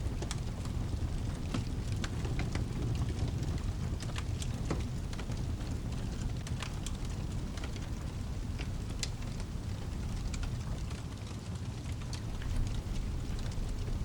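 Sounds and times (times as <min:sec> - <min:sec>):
steady low rumble: 0:00.0 - 0:11.0, 0:12.1 - 0:14.0
rain hissing: 0:00.0 - 0:11.1, 0:12.2 - 0:14.0
fireplace crackling with pops: 0:00.0 - 0:14.0.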